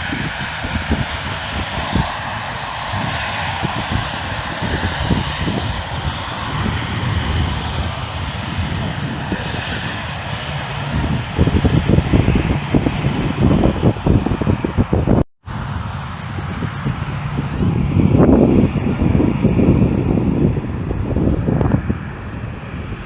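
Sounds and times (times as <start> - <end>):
airliner engines rushing: 0.0 - 23.0
wind buffeting microphone: 0.0 - 23.0.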